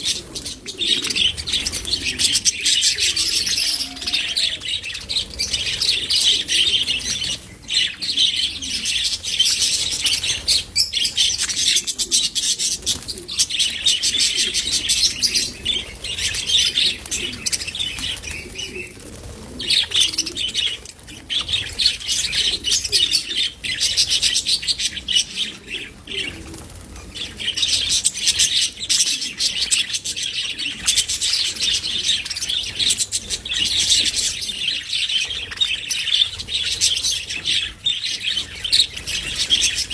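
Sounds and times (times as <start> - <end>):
budgerigars chattering: 0.0 - 18.9, 19.6 - 26.4, 27.2 - 39.9.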